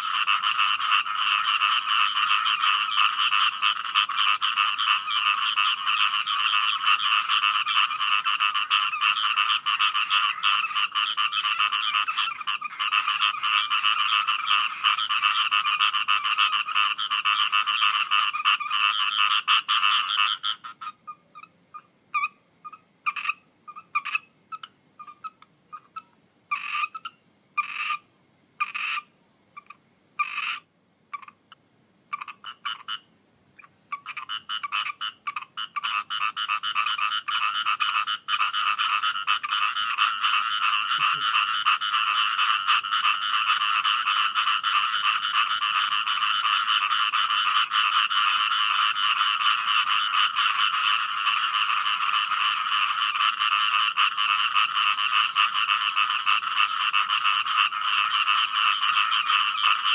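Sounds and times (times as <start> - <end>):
frogs croaking: 0.0 - 59.9.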